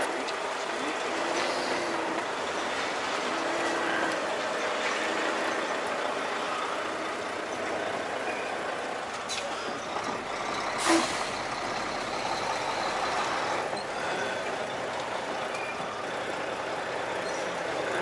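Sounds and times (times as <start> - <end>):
truck engine rumble: 0.0 - 18.0.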